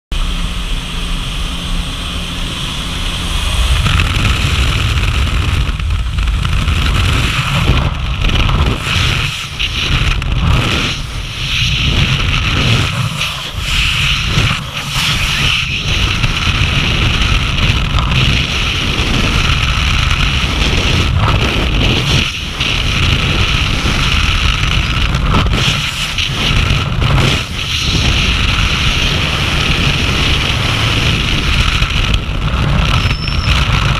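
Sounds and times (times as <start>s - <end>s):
aircraft engine: 0.1s - 33.9s
wind rushing over microphone: 0.1s - 33.9s.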